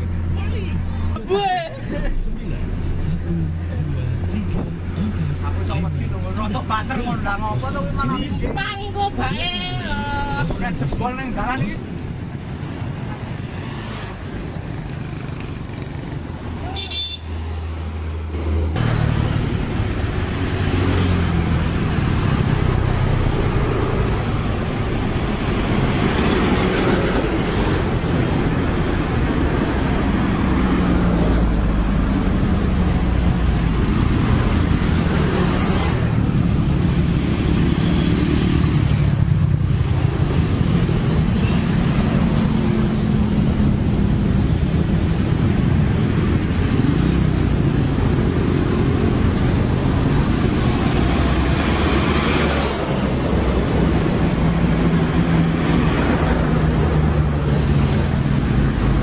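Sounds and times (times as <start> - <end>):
dense road traffic passing: 0.0 - 59.0.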